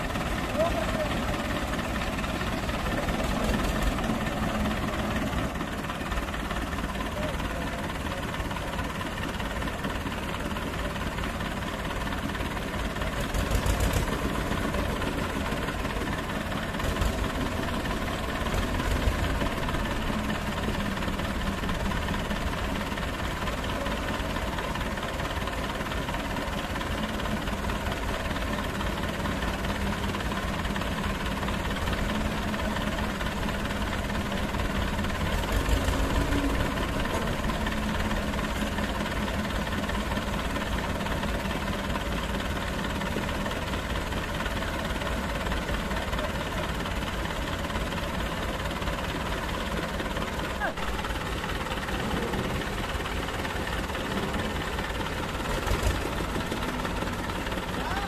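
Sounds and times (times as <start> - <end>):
diesel tractor engines running: 0.0 - 58.0.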